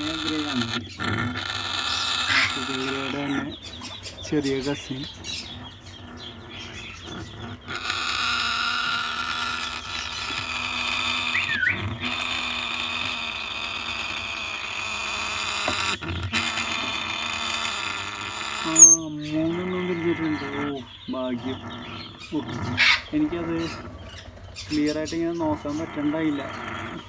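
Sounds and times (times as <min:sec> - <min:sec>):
parrot chirp: 0:00.0 - 0:27.0
parrots hissing and rasping: 0:00.0 - 0:27.0.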